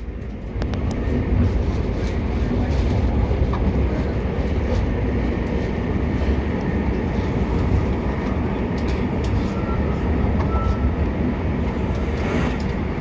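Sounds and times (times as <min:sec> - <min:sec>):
train rumbling along the line: 0:00.0 - 0:13.0.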